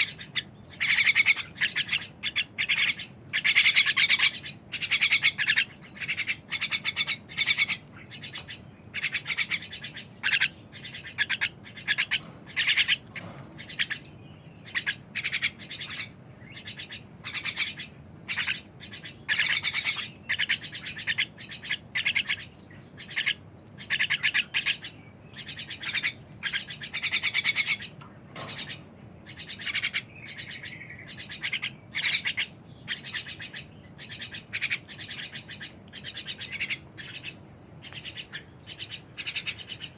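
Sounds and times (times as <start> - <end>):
bird trilling: 0.0 - 39.9.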